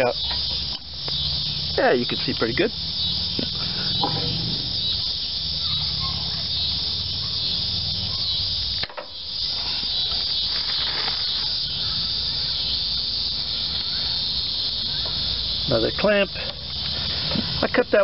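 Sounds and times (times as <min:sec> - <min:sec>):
cicadas buzzing: 0:00.0 - 0:18.0.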